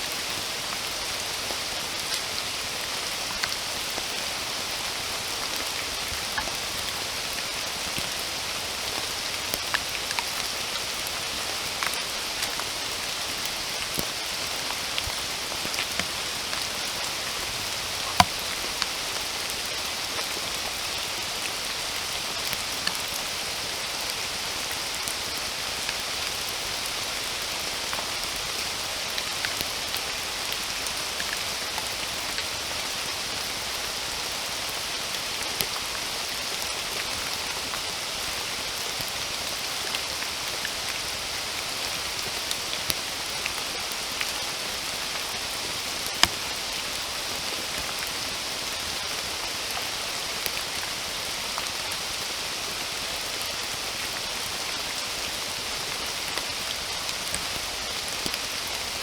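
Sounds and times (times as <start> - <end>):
steady rain hiss: 0.0 - 59.0
raindrops striking close by: 0.1 - 59.0.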